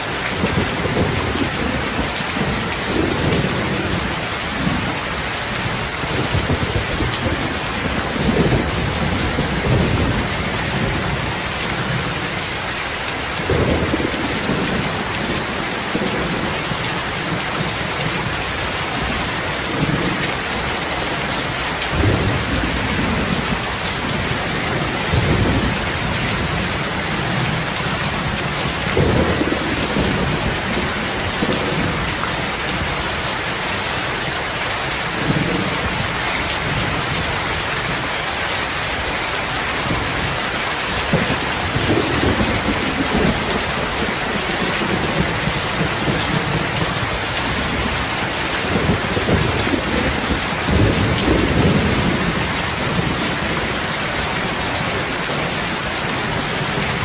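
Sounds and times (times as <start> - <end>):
heavy rain falling: 0.0 - 57.0
thunder rumbles: 0.3 - 12.4, 13.3 - 33.0, 35.1 - 38.0, 39.8 - 57.0.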